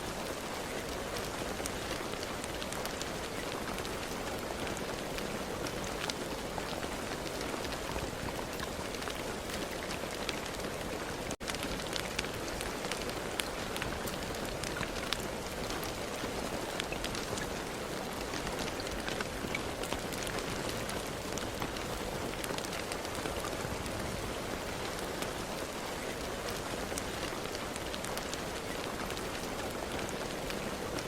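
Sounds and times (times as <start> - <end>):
rain falling: 0.0 - 31.0
raindrops ticking: 0.1 - 31.0.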